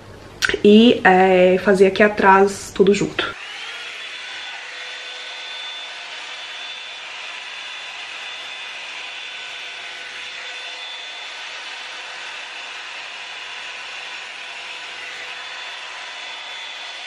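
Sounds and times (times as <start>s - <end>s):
hair dryer brush running: 3.2s - 17.0s.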